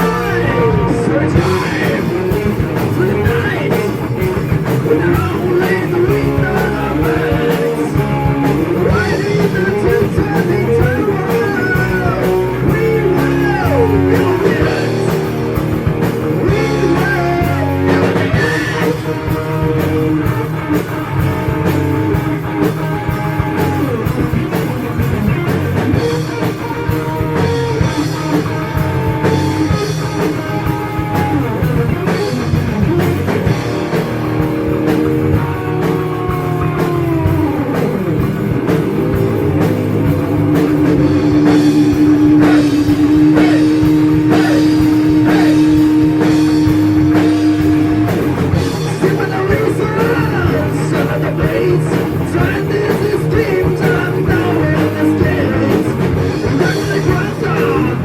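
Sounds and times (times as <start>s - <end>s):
heavy metal band playing: 0.0s - 58.0s
lead guitar bending notes: 0.0s - 58.0s.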